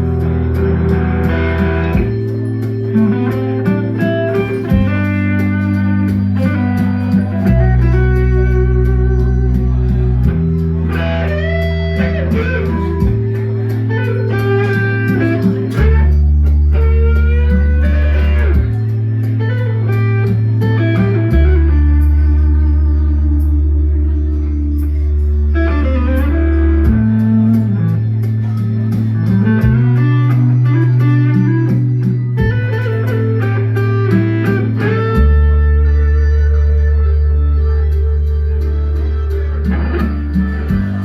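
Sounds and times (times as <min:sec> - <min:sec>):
bass line: 0:00.0 - 0:41.0
lead guitar bending notes: 0:00.0 - 0:41.0.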